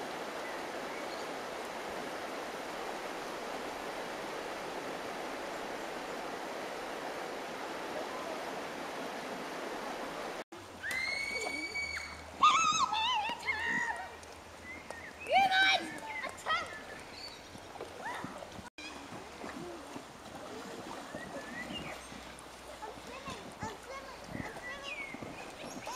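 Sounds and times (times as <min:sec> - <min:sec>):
water rushing over rocks: 0:00.0 - 0:25.9.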